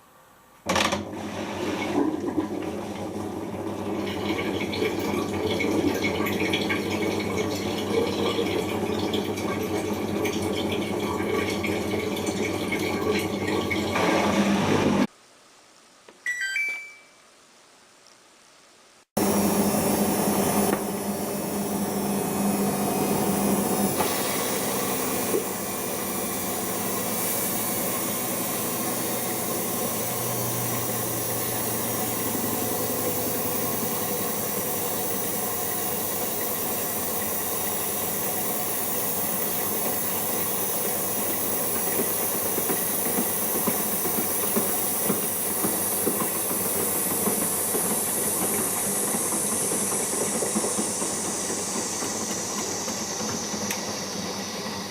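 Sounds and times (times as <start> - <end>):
water running into drum: 1.2 - 15.0, 19.2 - 54.6.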